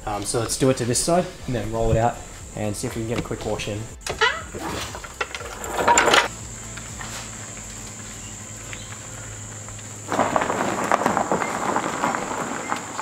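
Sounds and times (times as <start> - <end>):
low steady hum: 0.0 - 10.5
footsteps crunching on gravel: 0.0 - 13.0.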